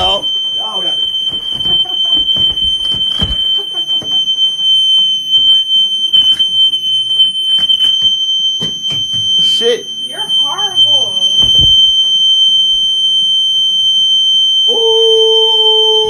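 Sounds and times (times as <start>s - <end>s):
smoke alarm high-pitched tone: 0.0s - 16.0s.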